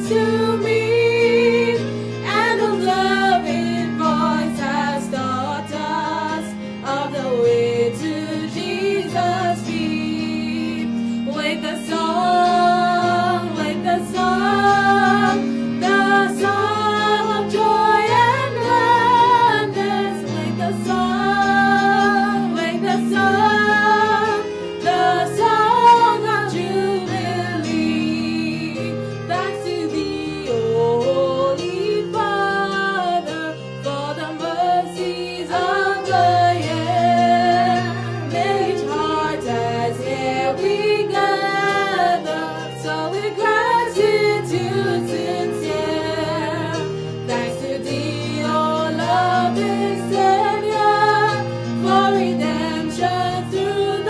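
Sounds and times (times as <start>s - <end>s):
instrumental accompaniment: 0.0s - 54.0s
women singing a hymn: 0.0s - 54.0s.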